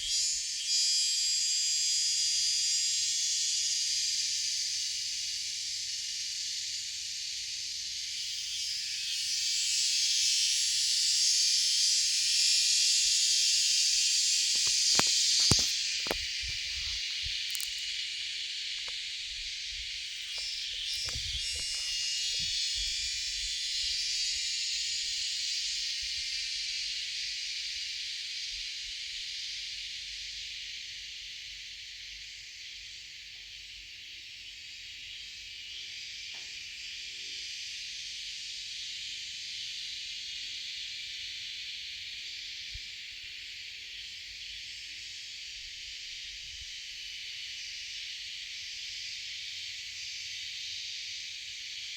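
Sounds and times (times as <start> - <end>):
insect chorus buzzing: 0.0 - 51.9.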